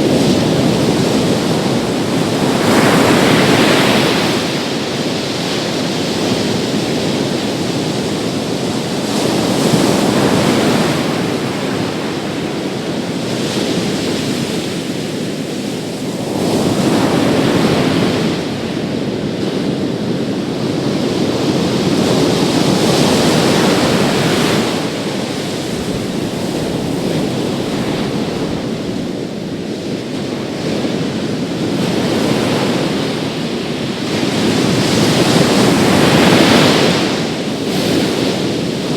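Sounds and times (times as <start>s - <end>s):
waves breaking on beach: 0.0s - 38.9s
wind buffeting microphone: 0.0s - 38.9s.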